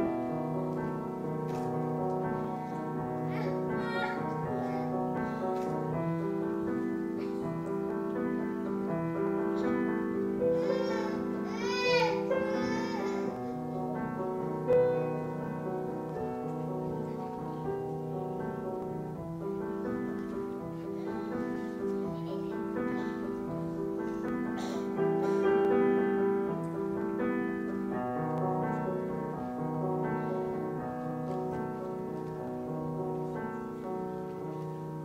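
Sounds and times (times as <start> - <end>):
grand piano chords: 0.0 - 35.0.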